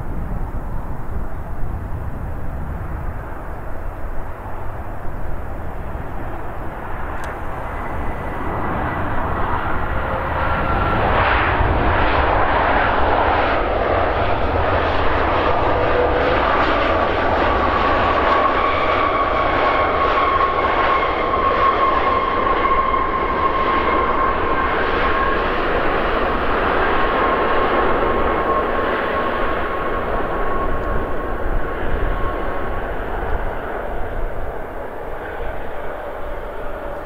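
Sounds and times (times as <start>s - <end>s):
jet engines roaring with whine: 0.0s - 37.0s.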